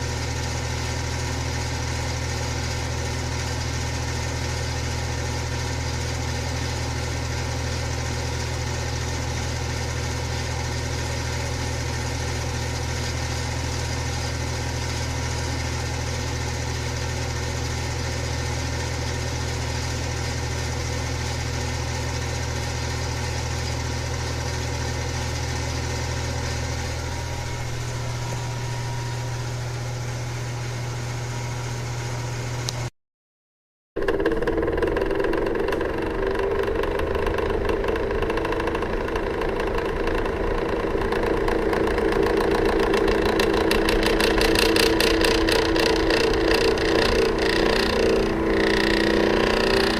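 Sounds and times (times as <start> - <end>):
electric fan running: 0.0 - 32.9, 34.0 - 49.9.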